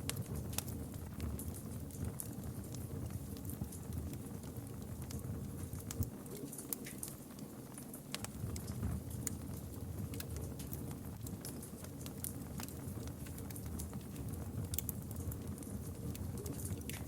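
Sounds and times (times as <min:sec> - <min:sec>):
campfire crackling and popping: 0:00.0 - 0:17.0
low rumble of burning wood: 0:00.0 - 0:17.0.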